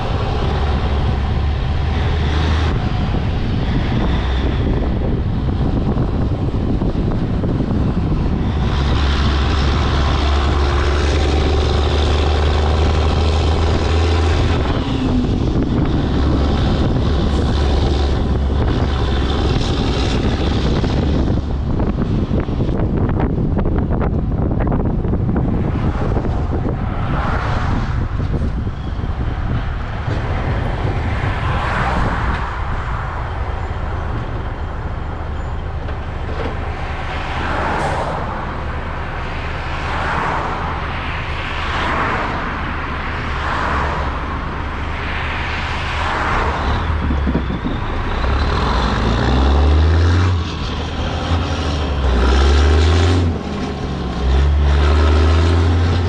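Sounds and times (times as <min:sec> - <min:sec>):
truck diesel engine: 0:00.0 - 0:56.0
wind and road noise: 0:00.0 - 0:56.0.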